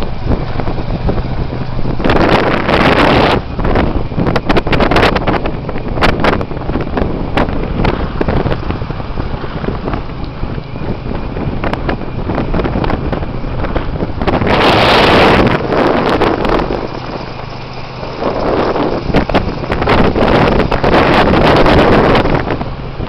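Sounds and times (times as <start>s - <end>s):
motorbike engine running: 0.0s - 23.0s
wind buffeting microphone: 0.0s - 23.0s.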